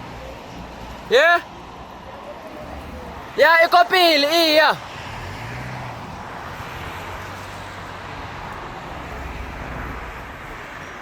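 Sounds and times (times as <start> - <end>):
road and wind noise: 0.0 - 11.0
vehicle engine hum: 0.0 - 11.0.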